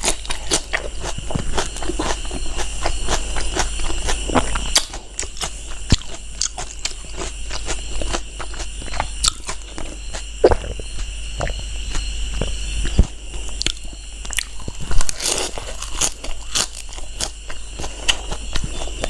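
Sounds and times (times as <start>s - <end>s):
close chewing and mouth clicks: 0.0s - 19.0s.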